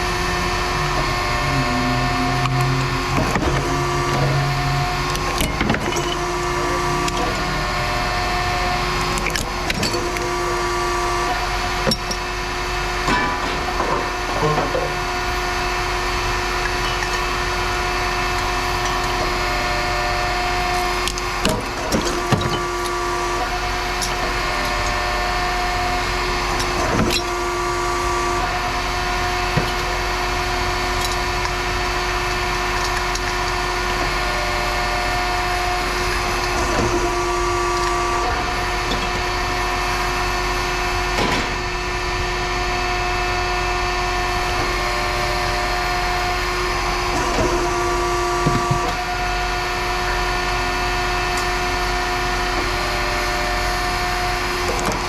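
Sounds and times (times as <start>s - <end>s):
metal shear humming: 0.0s - 55.0s.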